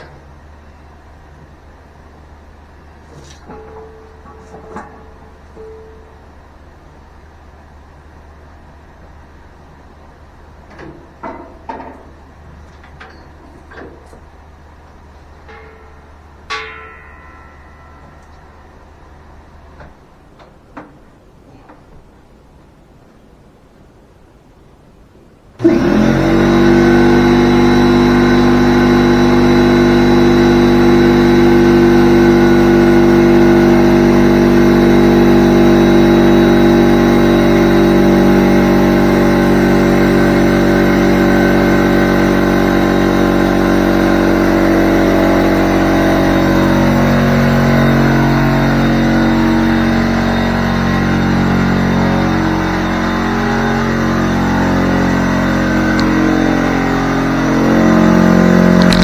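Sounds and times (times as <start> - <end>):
air compressor running: 0.0 - 19.9, 25.6 - 59.0.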